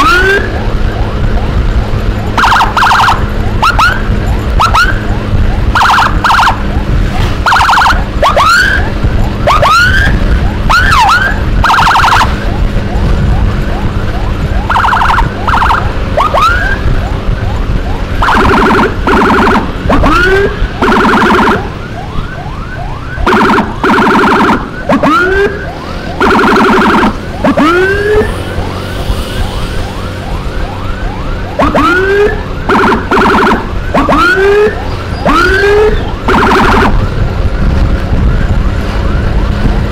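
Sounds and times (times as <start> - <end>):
electronic emergency siren: 0.0 - 39.9
engine and road rumble: 0.0 - 39.9.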